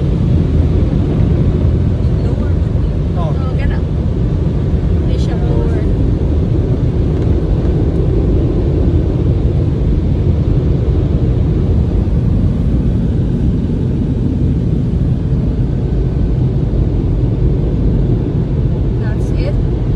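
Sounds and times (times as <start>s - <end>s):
car wash rushing noise: 0.0s - 19.9s.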